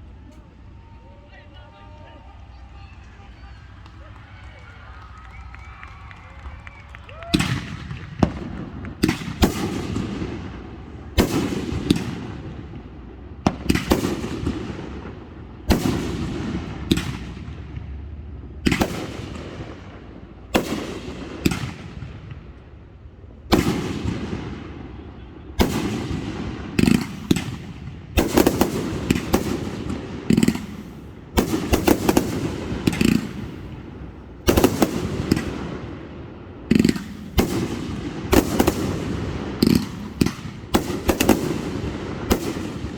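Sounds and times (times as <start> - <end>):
fireworks bangs with rolling echo: 0.0 - 42.9.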